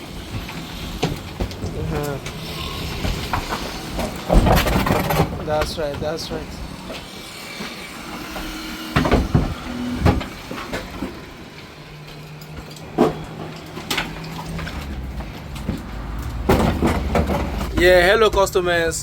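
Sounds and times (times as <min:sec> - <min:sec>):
sharp knocks and thuds: 0:00.2 - 0:11.5, 0:12.6 - 0:18.7.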